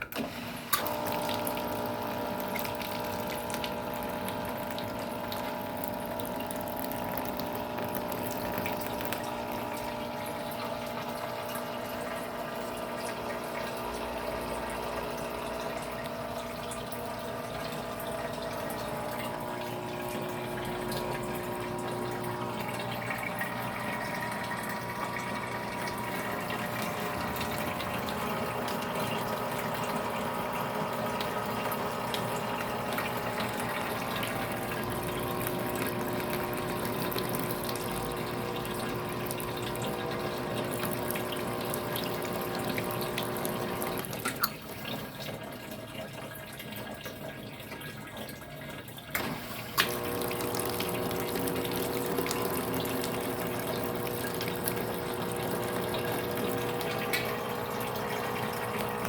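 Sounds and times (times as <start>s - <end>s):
parts washer pump whirring: 0.0s - 46.8s, 48.9s - 59.0s
splashing water: 0.8s - 48.6s, 49.2s - 59.0s.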